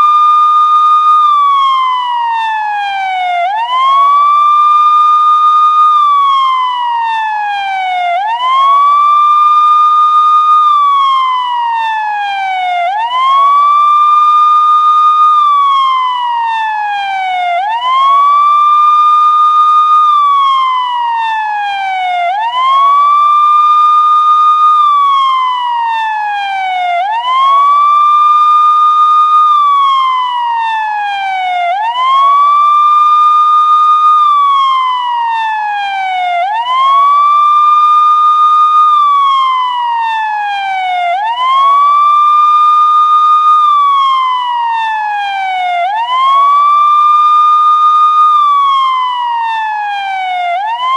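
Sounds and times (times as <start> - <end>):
police siren wailing: 0.0 - 50.9.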